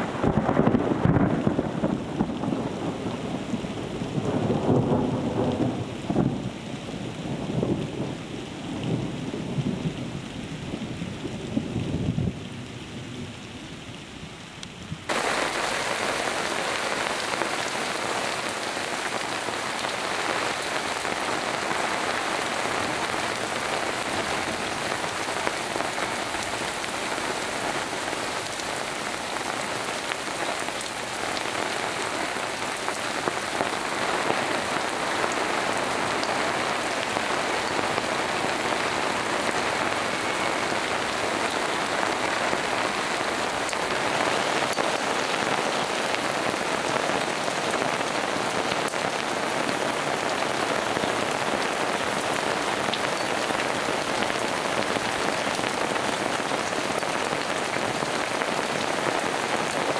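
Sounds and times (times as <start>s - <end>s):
close raindrops ticking: 0.0s - 59.9s
heavy rain pouring: 0.0s - 59.9s.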